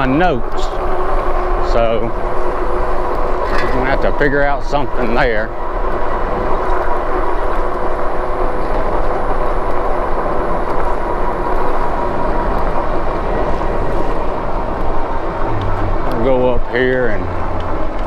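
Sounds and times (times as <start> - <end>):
faint motor hum: 0.0 - 18.0
wind and tyre noise: 0.0 - 18.0.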